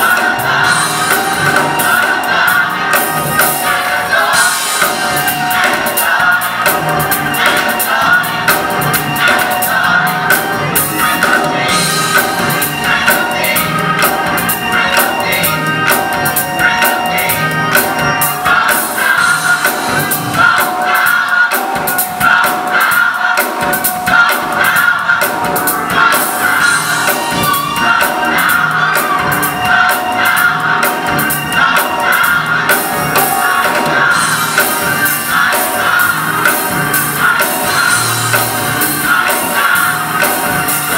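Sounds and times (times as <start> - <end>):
gospel choir singing: 0.0 - 40.9
steady percussion beat: 0.0 - 40.9.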